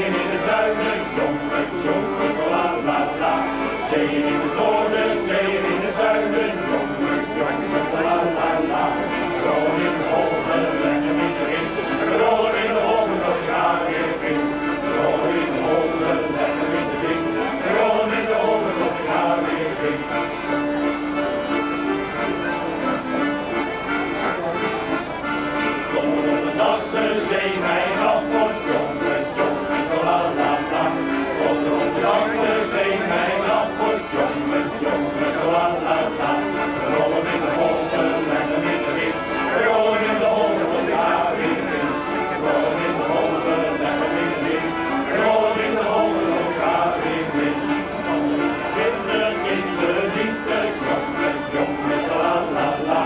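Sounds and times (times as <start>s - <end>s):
male choir singing: 0.0s - 20.6s, 25.5s - 53.0s
accordions playing chords: 0.0s - 53.0s.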